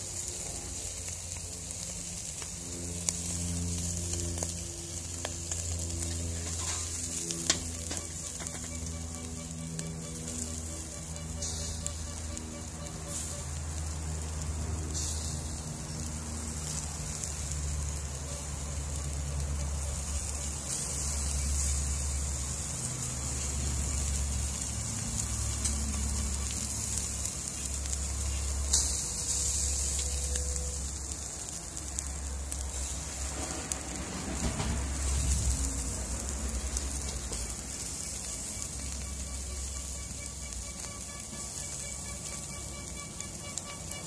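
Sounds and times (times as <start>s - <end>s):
fish sizzling on grill: 0.0s - 44.0s
low steady rumble: 0.0s - 44.0s
sharp crackle: 0.0s - 44.0s.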